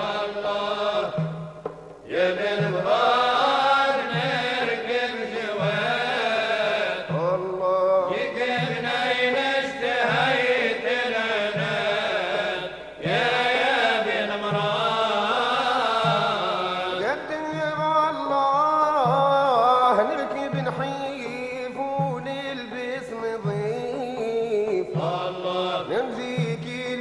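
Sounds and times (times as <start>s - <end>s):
ornamented melody over low beat: 0.0s - 27.0s.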